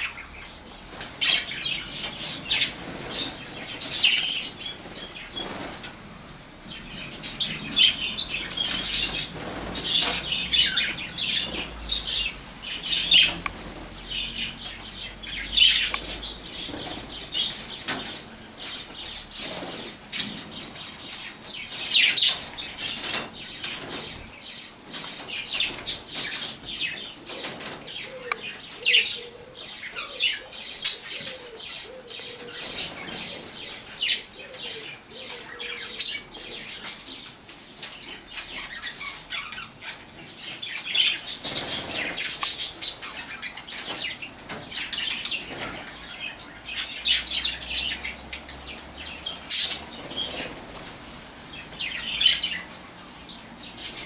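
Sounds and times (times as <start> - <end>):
budgerigars chattering: 0.0 - 5.8, 6.7 - 54.0.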